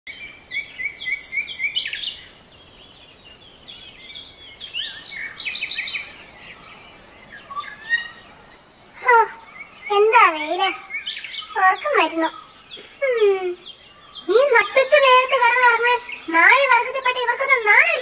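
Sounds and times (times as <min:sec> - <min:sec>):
faint background hiss: 0:00.1 - 0:18.0
songbirds singing: 0:00.1 - 0:18.0.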